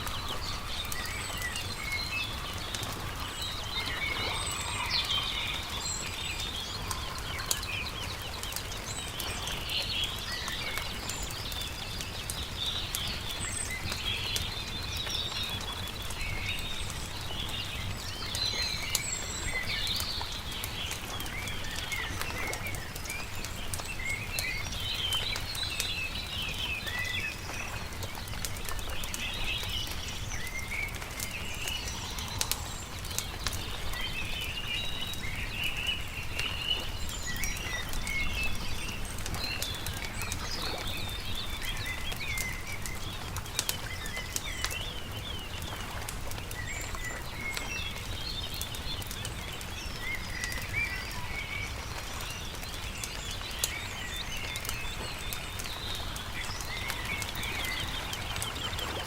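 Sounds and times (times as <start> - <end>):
campfire popping and crackling: 0.0 - 59.0
songbirds chirping and singing: 0.0 - 59.0.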